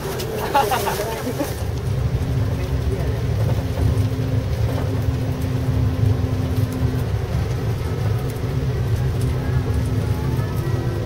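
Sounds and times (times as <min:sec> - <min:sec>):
coach engine and road noise: 0:00.0 - 0:11.0.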